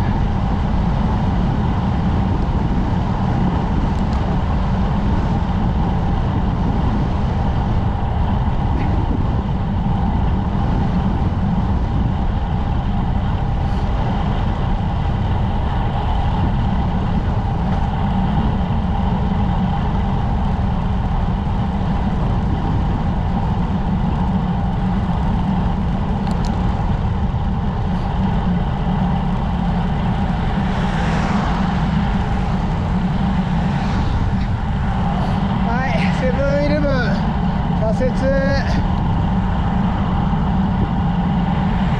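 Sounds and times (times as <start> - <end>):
tyres rumbling on road: 0.0 - 41.9
wind buffeting microphone: 0.0 - 41.9.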